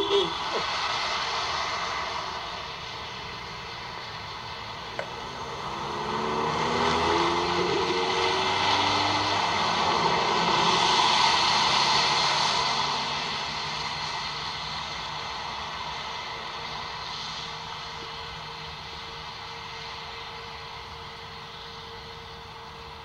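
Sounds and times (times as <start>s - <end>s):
tyres on wet slushy pavement: 0.0s - 20.8s
car engine: 0.0s - 23.0s.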